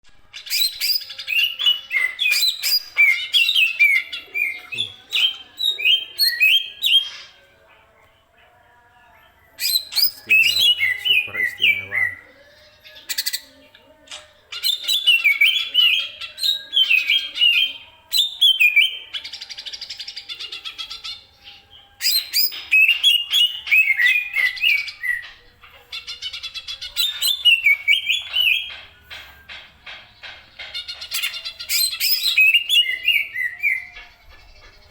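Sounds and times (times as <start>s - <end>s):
bird whistling song: 0.4s - 7.4s, 9.5s - 13.6s, 14.5s - 34.9s.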